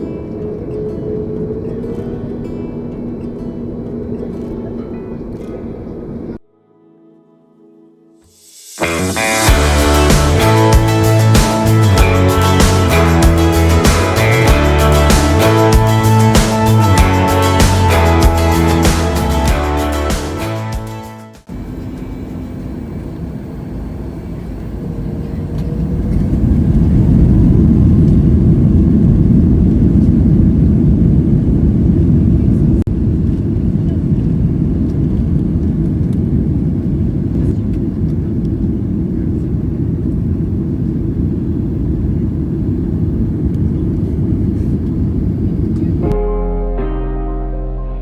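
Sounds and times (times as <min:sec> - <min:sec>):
jet engines rumbling: 0:00.0 - 0:06.4, 0:08.7 - 0:20.7, 0:21.4 - 0:46.1.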